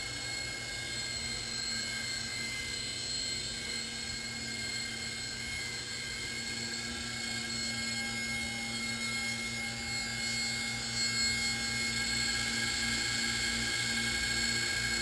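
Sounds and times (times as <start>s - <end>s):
toy helicopter rotors whining: 0.0s - 15.0s.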